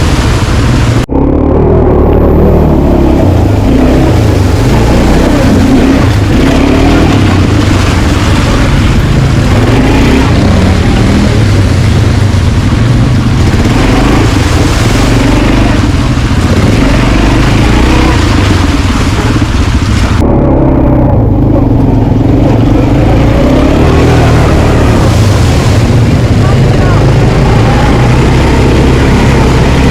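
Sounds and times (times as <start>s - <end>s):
quad bike engine revving: 0.0s - 29.9s.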